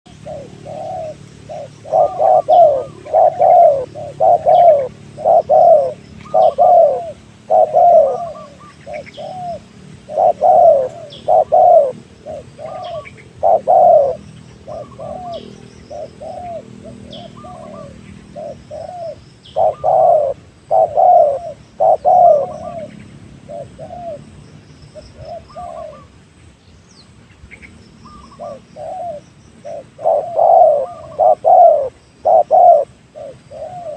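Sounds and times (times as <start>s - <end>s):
dove cooing: 0.1s - 24.4s, 25.0s - 26.2s, 28.1s - 33.9s
small birds chirping: 0.1s - 33.9s.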